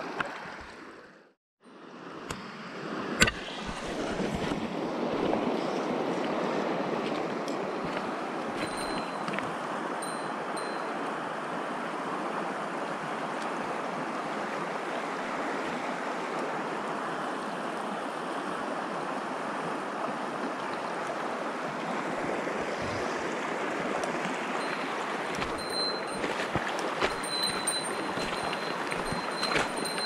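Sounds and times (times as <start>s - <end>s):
stream rushing over gravel: 4.9s - 30.0s.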